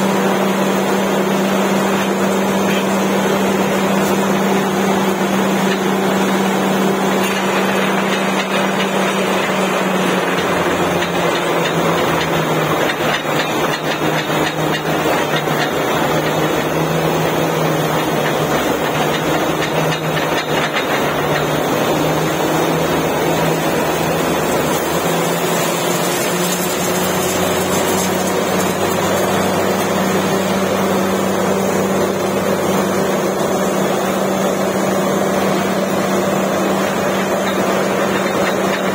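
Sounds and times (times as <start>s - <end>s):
drilling rig and compressor hum: 0.0s - 38.9s.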